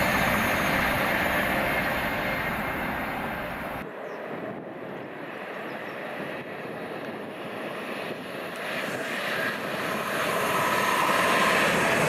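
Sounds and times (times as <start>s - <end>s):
train rumbling and rushing: 0.0s - 12.0s.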